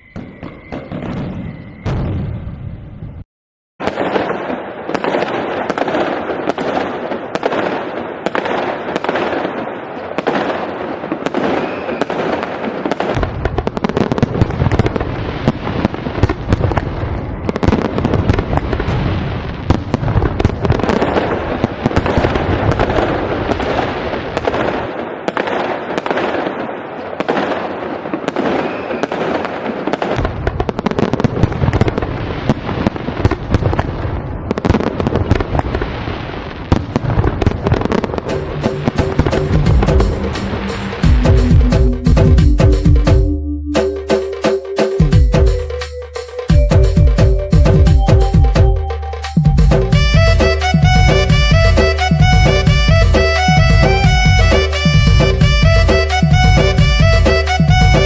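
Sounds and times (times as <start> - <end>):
fireworks crackling and banging: 0.0 - 2.7, 3.8 - 43.2, 43.8 - 58.0
deep firework booms: 0.0 - 3.2, 3.8 - 43.2, 49.6 - 58.0.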